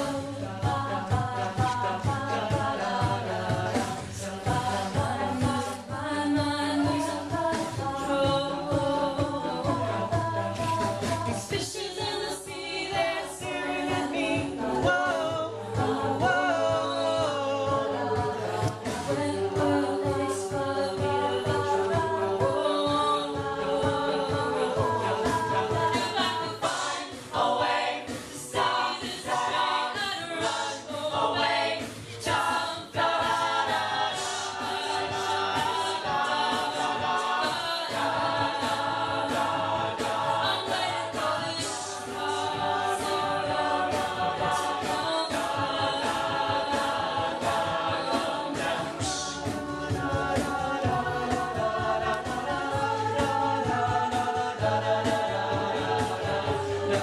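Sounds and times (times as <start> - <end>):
group singing in harmony: 0.0 - 57.0.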